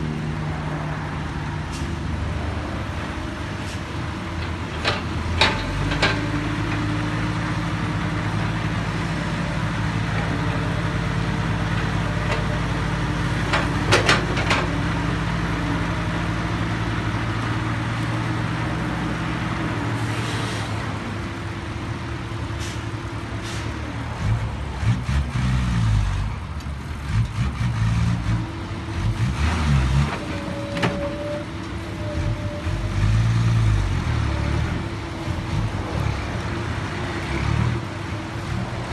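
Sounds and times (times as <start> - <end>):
excavator diesel engine running: 0.1 - 38.9.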